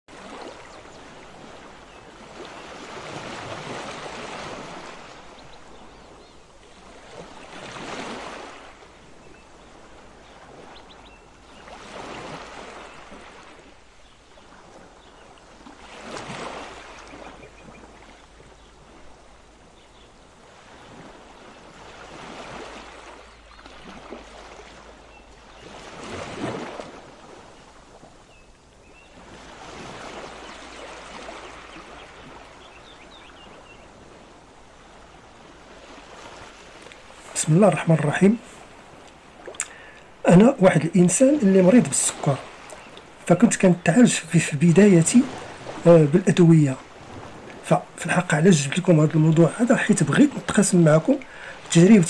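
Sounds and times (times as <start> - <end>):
ocean waves washing in: 0.1 - 52.0.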